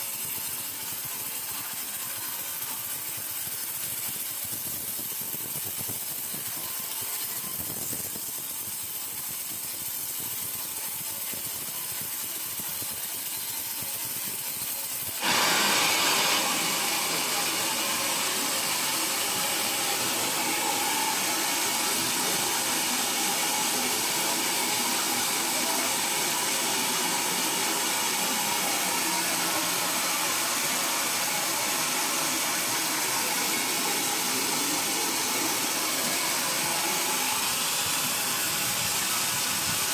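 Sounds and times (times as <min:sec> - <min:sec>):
steady machine hiss: 0:00.0 - 0:39.9.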